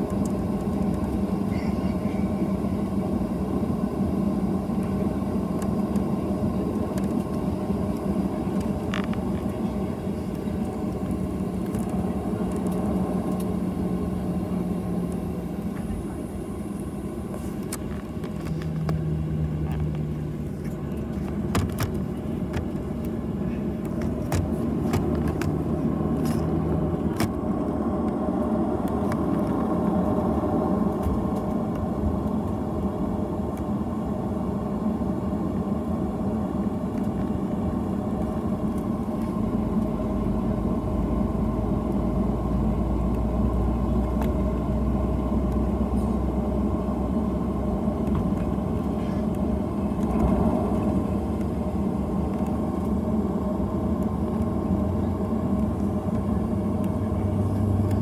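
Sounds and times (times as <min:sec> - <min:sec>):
jet engines humming: 0:00.0 - 0:58.0.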